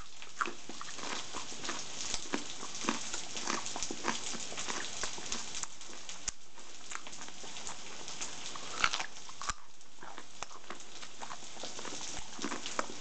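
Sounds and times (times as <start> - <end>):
person crunching raw carrot: 0.0 - 13.0.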